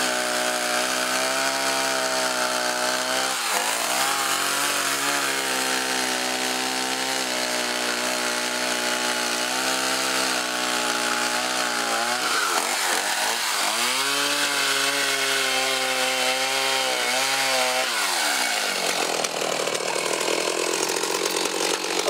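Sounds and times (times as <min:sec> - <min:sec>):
chainsaw cutting ice: 0:00.0 - 0:22.0.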